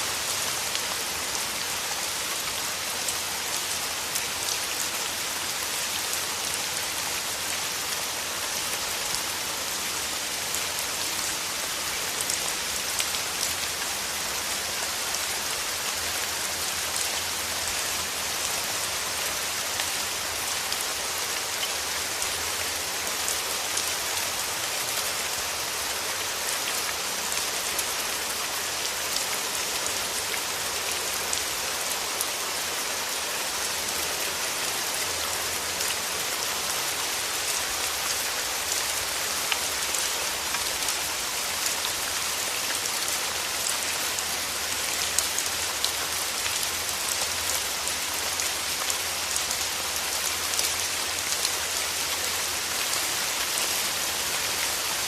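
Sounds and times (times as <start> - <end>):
rain pattering on leaves: 0.0 - 55.0.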